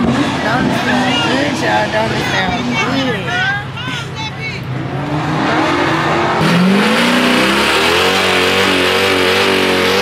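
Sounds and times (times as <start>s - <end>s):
car engine revving hard: 0.0s - 2.9s, 4.8s - 10.0s.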